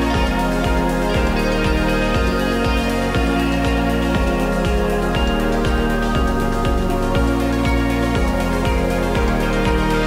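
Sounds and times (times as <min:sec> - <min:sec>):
synth chords over a steady beat: 0:00.0 - 0:10.0.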